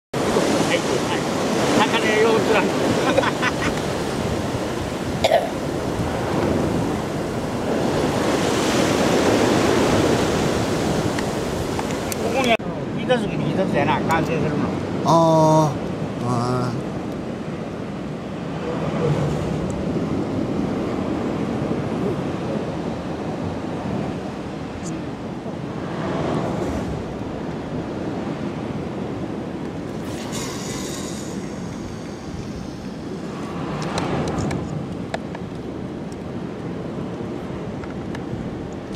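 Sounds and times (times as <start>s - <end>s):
wind rumbling on microphone: 0.2s - 15.1s, 15.7s - 38.9s
waves washing against seawall: 0.2s - 38.9s.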